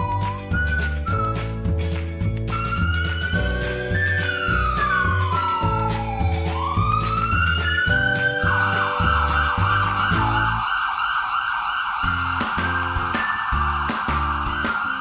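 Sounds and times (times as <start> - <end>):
wavering siren-like wail: 0.0 - 1.4, 2.5 - 15.0
music with steady bass beat: 0.0 - 10.6, 12.0 - 15.0.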